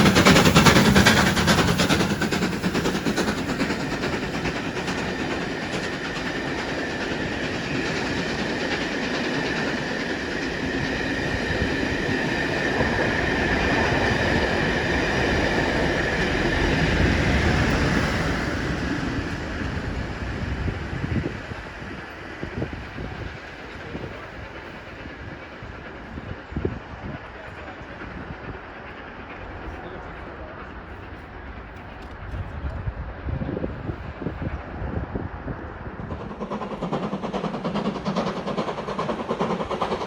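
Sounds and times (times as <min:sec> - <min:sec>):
train wheels clattering over rails: 0:00.0 - 0:40.0.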